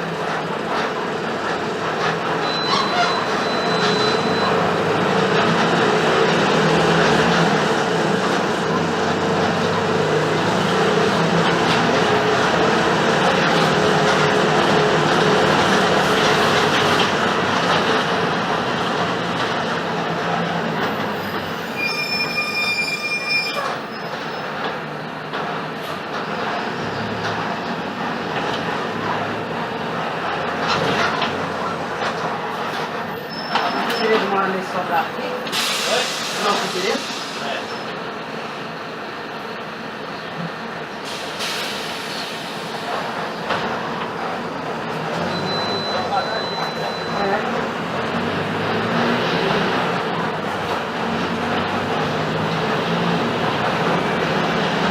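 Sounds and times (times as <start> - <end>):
brakes squealing: 0.0 - 54.9
bus diesel engine: 0.0 - 54.9
road noise: 0.0 - 54.9.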